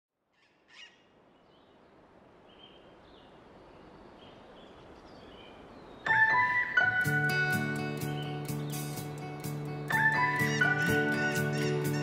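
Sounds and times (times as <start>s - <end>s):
outdoor background noise: 0.1s - 11.0s.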